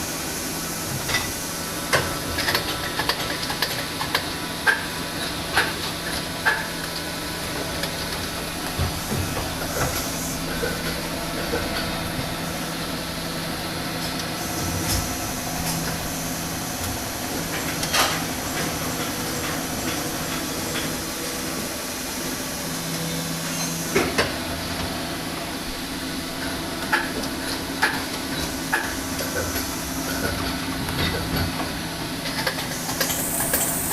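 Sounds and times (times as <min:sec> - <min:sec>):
machine humming with hiss: 0:00.0 - 0:33.9.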